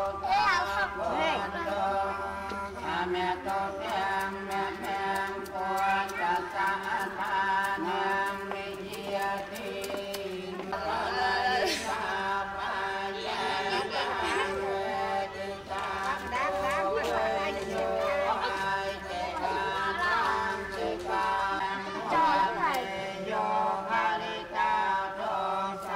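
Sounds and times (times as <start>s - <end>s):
voices chanting prayers: 0.0s - 25.9s.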